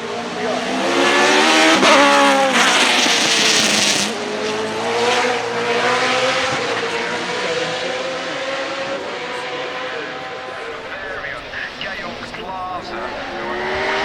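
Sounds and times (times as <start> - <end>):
race car engine passing: 0.0 - 14.0.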